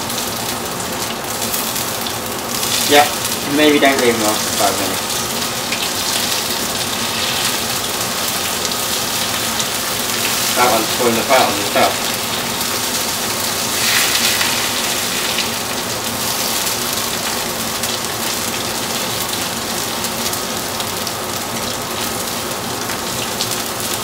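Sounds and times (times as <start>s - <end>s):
fishcakes sizzling in hot oil: 0.0s - 24.0s.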